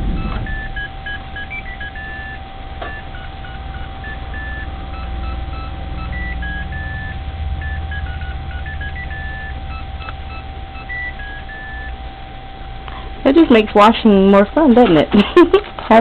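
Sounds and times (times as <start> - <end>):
washing machine beeping tune: 0.0 - 12.5, 13.2 - 16.0.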